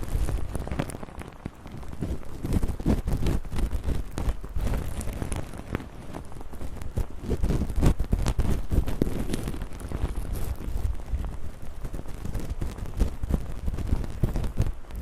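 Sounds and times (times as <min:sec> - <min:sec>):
crackling and rubbing on microphone: 0:00.0 - 0:15.0.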